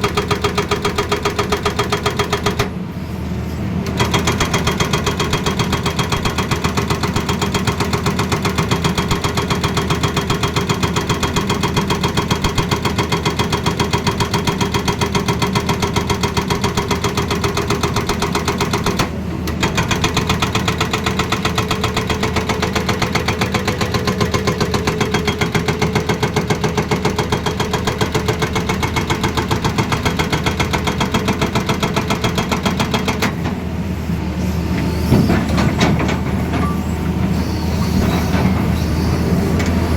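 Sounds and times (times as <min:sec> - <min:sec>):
hydraulic breaker hammering: 0:00.0 - 0:02.7, 0:03.9 - 0:33.6.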